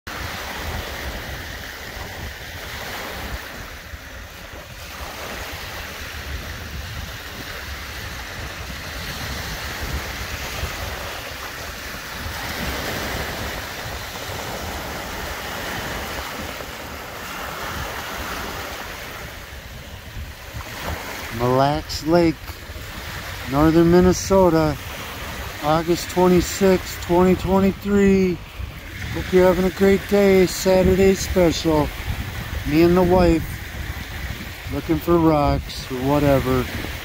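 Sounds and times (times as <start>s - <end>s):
waves washing onto shore: 0.1s - 37.0s
wind buffeting microphone: 0.1s - 37.0s.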